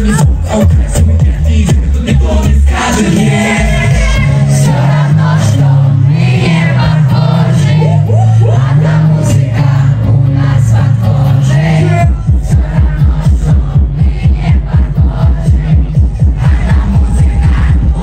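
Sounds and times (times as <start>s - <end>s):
bass synth notes: 0.0s - 18.0s
pulsing beat: 0.0s - 18.0s.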